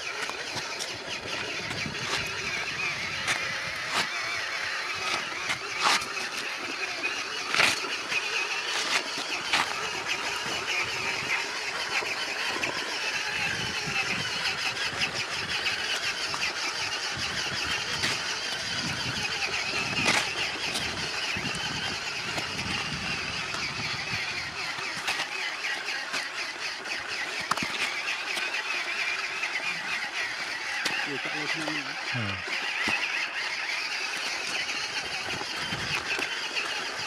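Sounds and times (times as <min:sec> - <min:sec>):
model truck motor whirring: 0:00.0 - 0:37.0.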